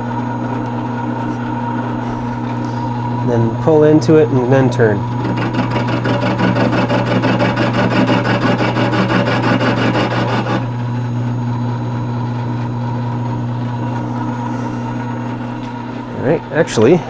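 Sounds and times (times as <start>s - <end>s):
mill motor humming: 0.0s - 17.0s
milling cutter chattering: 0.6s - 17.0s.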